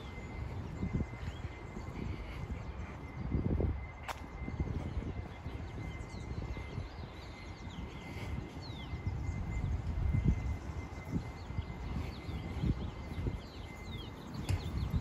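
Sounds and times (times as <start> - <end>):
footsteps on paved path: 0.0 - 15.0
small birds chirping: 0.0 - 15.0
wind rumbling on microphone: 0.0 - 15.0.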